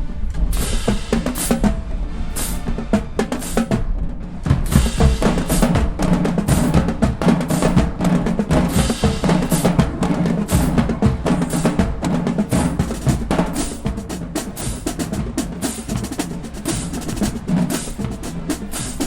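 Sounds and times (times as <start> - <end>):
drumline playing a fast cadence: 0.3 - 19.0.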